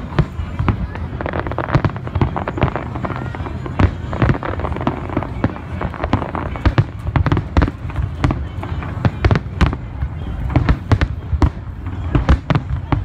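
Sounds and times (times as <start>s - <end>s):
fireworks exploding: 0.0s - 13.0s.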